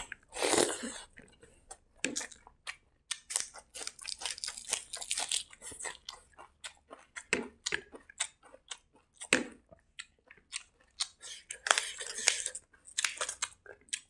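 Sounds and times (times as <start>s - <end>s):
person chewing crunchy food: 0.0s - 14.0s.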